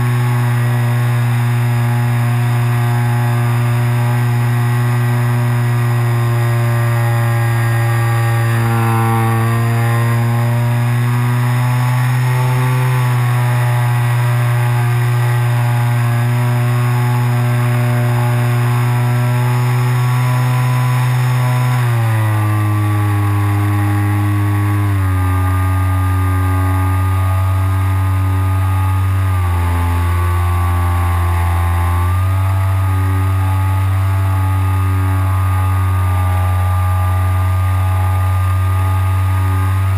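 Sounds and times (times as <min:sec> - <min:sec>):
model glider motor droning: 0:00.0 - 0:39.9.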